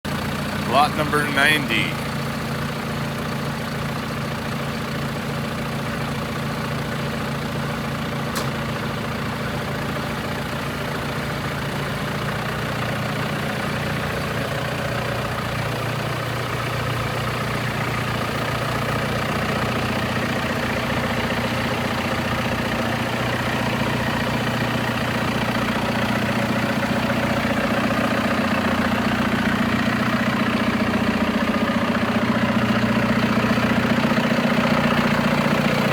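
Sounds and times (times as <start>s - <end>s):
tractor diesel engine idling: 0.0s - 35.9s.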